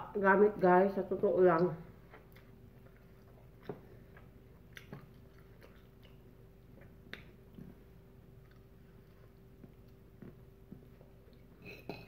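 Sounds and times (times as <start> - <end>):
steady low hum: 0.0 - 12.0
faint chewing: 1.6 - 12.0.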